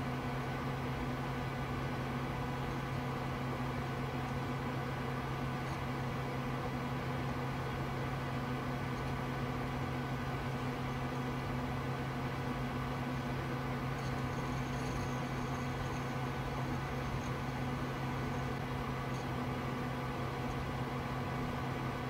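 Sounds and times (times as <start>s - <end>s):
computer fans humming: 0.0s - 22.0s
faint steady tones: 0.0s - 22.0s.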